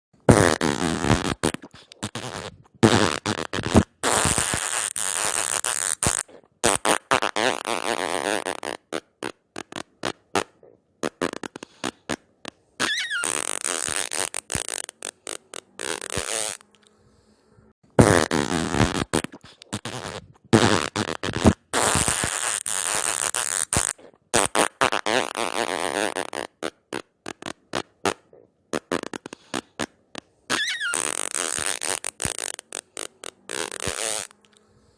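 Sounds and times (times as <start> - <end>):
fart sound effects: 0.3 - 16.6, 18.0 - 34.4.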